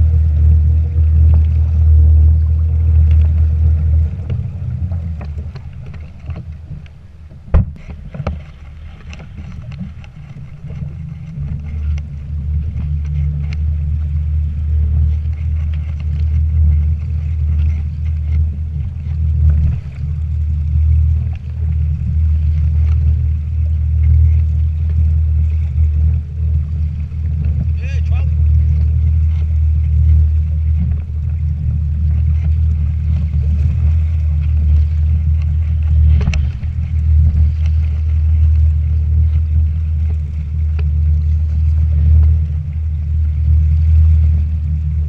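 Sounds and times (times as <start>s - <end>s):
low rumble of kayak on water: 0.0s - 45.0s.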